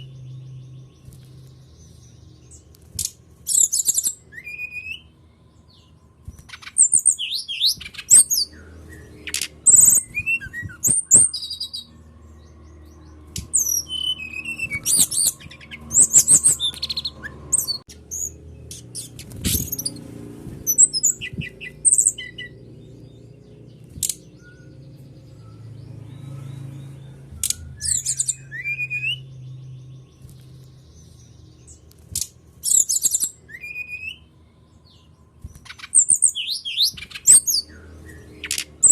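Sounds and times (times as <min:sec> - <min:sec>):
bird song with sharp chirps: 0:00.0 - 0:38.9.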